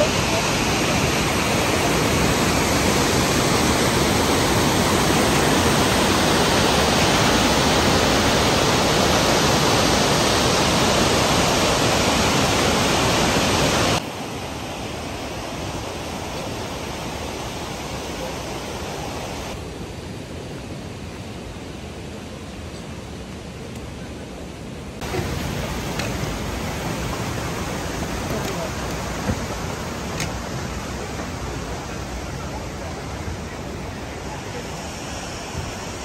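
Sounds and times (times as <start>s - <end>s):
waterfall rushing: 0.0s - 19.6s, 25.0s - 36.0s.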